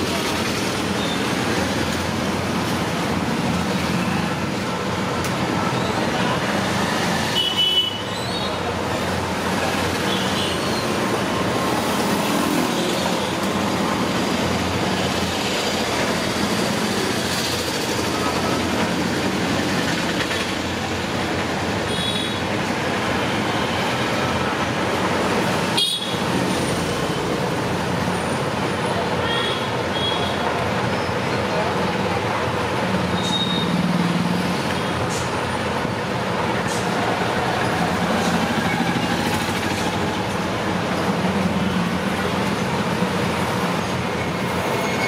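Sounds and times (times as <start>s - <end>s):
road traffic noise: 0.0s - 45.0s.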